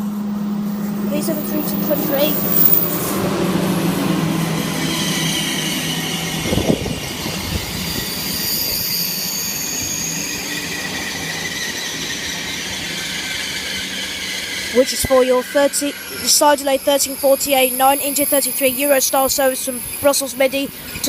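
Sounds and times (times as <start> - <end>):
train brakes squealing: 0.1 - 21.0.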